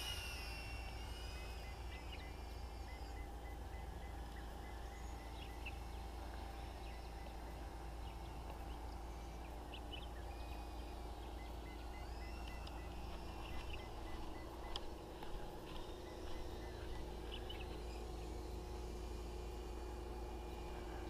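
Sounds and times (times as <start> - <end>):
birds calling: 0.0 - 21.0
faint steady hum: 0.0 - 21.0.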